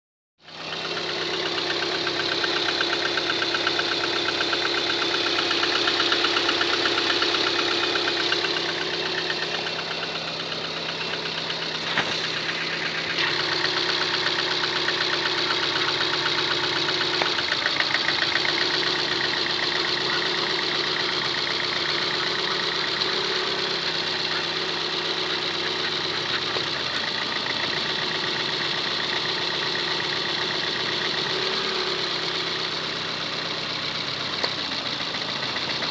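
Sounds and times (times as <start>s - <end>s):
car engine idling: 0.4s - 35.9s.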